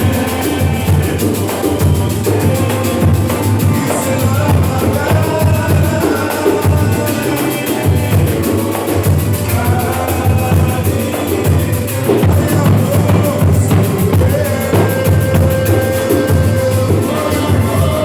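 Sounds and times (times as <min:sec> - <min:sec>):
low drum beats: 0:00.0 - 0:18.0
pitched instrument lines: 0:00.0 - 0:18.0
rapid high drum strokes: 0:00.0 - 0:18.0.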